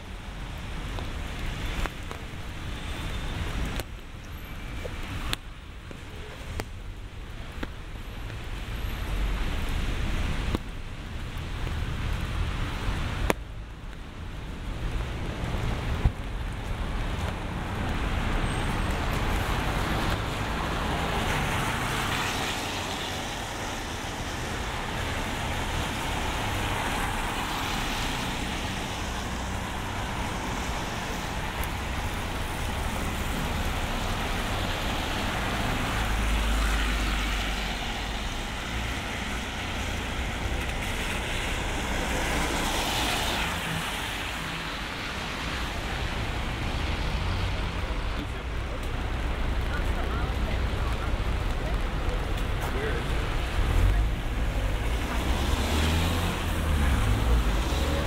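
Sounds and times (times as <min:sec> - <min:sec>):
tyres hissing on wet road: 0:00.0 - 0:58.0.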